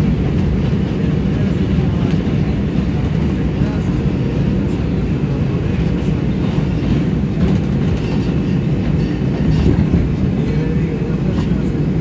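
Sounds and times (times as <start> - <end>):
subway train wheels rumbling on rails: 0.0 - 12.0.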